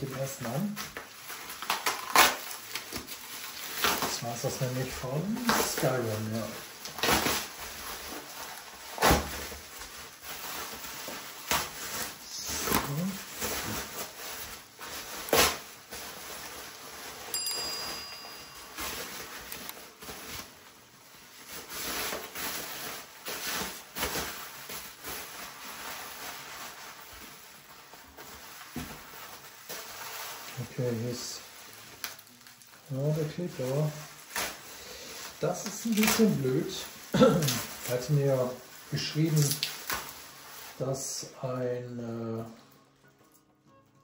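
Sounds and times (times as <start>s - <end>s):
packaging rustling and crinkling: 0.0s - 43.5s.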